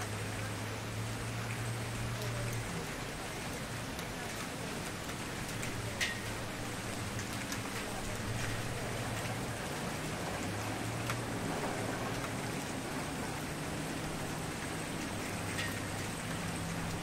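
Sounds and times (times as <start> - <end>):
wood fire crackling: 1.5 - 17.0.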